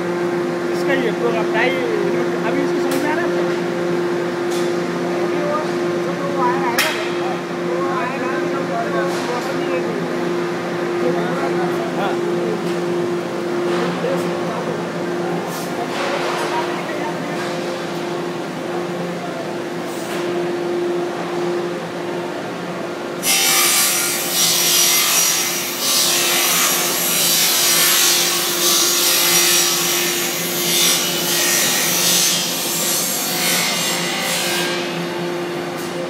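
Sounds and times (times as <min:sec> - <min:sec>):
steady machine hum: 0:00.0 - 0:36.0.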